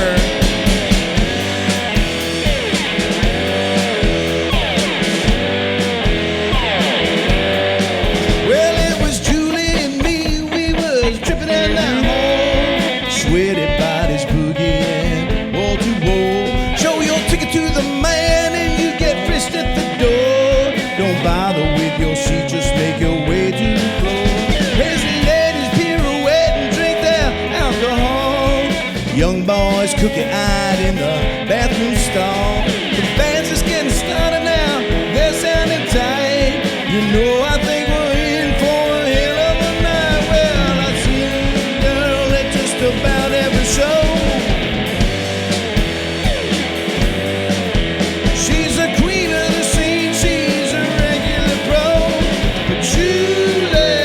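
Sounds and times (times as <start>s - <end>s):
drums and bass: 0.0s - 54.0s
lead guitar bending: 0.0s - 54.0s.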